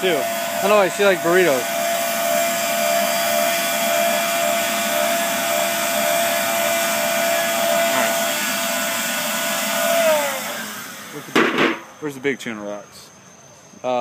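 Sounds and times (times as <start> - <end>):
electric air blower whirring: 0.0 - 12.0.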